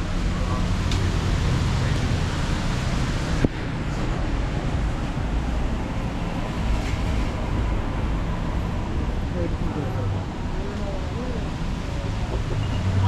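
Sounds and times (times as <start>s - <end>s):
traffic on a wet road: 0.0s - 13.0s.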